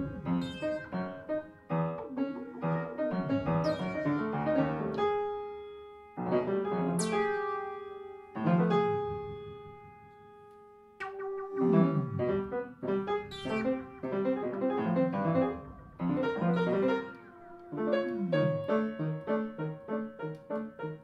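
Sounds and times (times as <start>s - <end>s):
free jazz piano: 0.0s - 21.0s.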